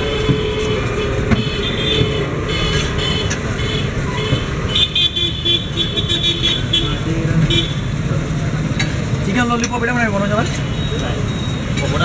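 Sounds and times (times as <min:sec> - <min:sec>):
busy street traffic: 0:00.0 - 0:12.0.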